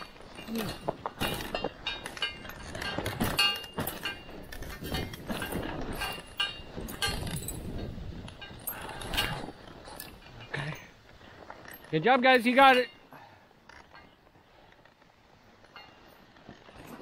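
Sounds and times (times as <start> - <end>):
harness metal clinking and jingling: 0.0 - 15.0, 15.6 - 17.0.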